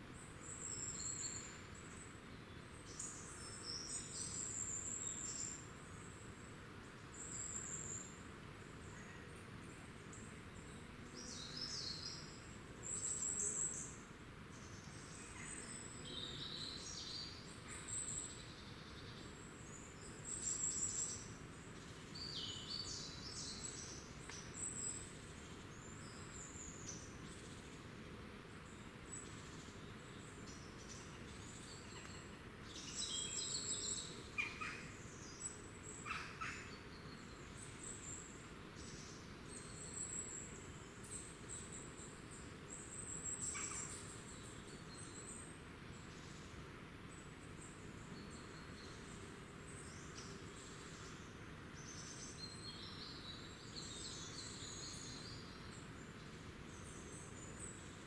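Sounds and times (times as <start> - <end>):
faint steady hiss: 0.0 - 58.0
songbirds chirping: 0.0 - 58.0.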